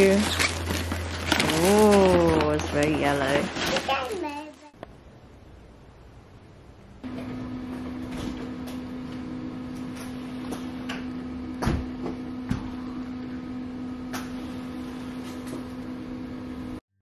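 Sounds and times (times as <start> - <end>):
appliance humming: 0.0 - 5.0, 6.8 - 16.8.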